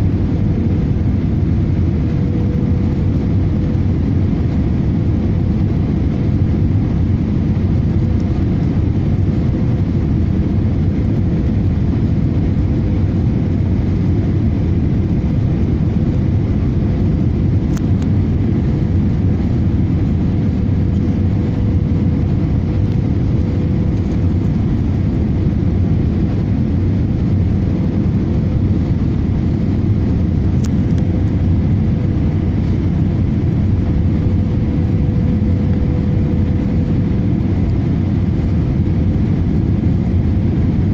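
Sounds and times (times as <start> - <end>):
jet engines rumbling: 0.0 - 40.9
steady hum: 0.0 - 40.9.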